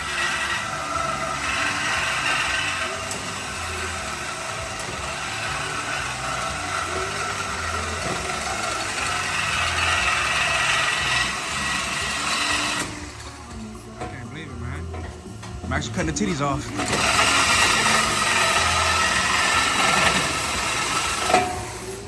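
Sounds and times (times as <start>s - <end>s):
power tool cutting steel pipe: 0.0s - 22.0s.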